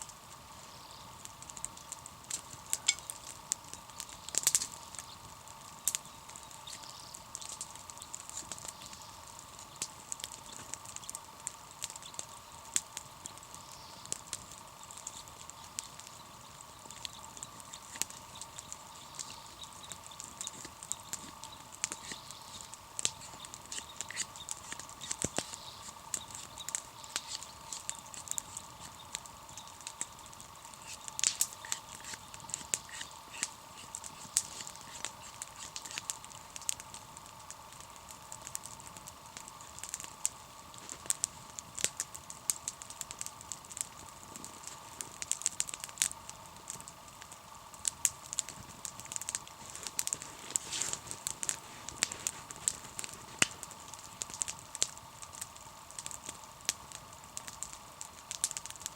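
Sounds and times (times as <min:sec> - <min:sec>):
campfire crackling and popping: 0:00.0 - 0:58.9
faint steady hum: 0:00.0 - 0:58.9.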